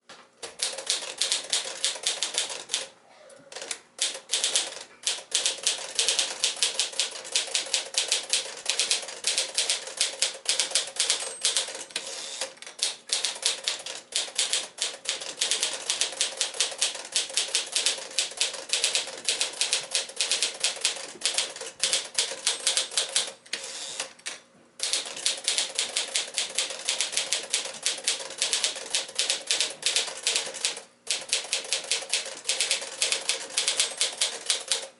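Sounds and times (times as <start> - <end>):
typewriter typing: 0.4 - 2.9, 3.5 - 34.9.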